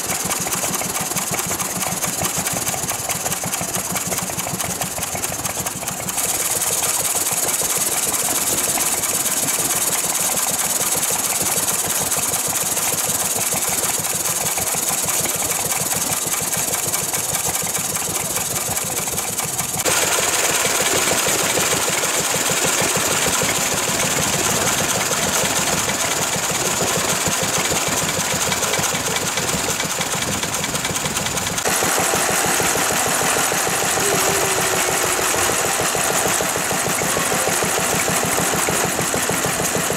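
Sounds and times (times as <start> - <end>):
stationary engines running: 0.0 - 39.9.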